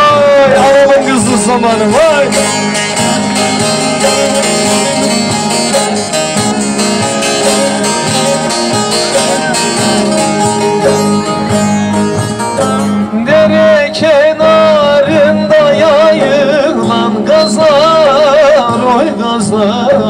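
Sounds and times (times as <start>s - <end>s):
man singing long wavering notes: 0.0s - 20.0s
plucked string instrument: 0.0s - 20.0s.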